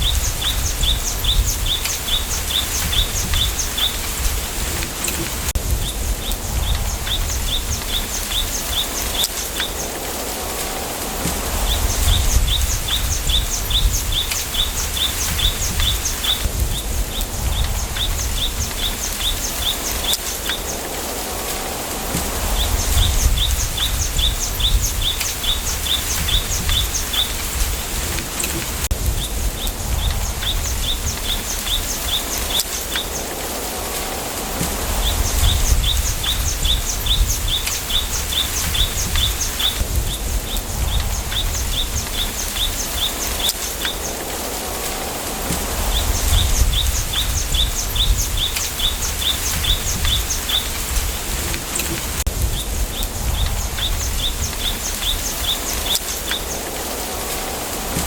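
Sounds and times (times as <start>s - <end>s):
wind through bamboo: 0.0s - 58.0s.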